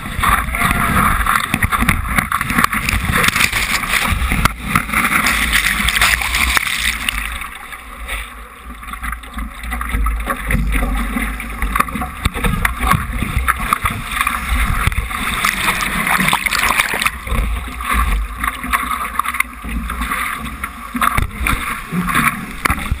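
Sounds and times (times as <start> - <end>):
wind rumbling on microphone: 0.0 - 7.6, 8.6 - 23.0
water rushing and splashing: 0.0 - 23.0.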